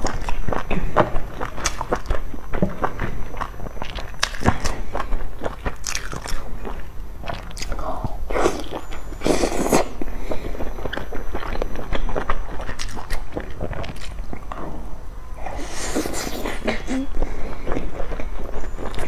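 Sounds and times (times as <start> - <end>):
biting and chewing buns: 0.0 - 19.0.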